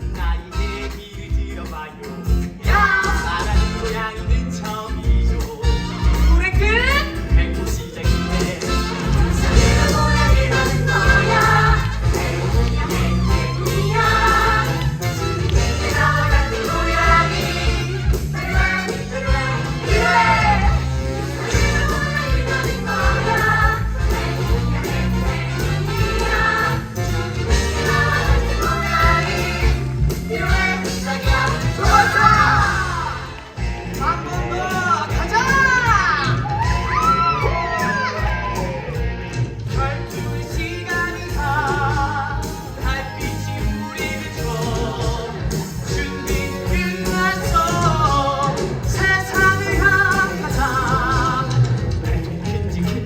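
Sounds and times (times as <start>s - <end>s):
voices singing together: 0.0s - 6.1s, 6.8s - 53.0s
backing track with bass line: 0.0s - 53.0s
instrumental accompaniment: 0.0s - 53.0s.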